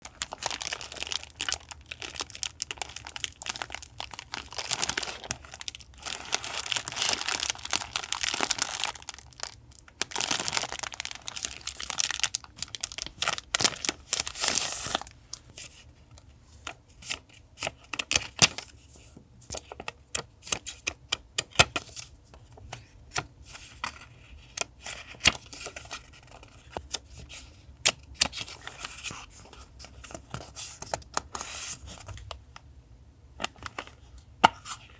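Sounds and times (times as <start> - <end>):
paper crinkling and rustling: 0.0 - 32.3, 33.4 - 34.9.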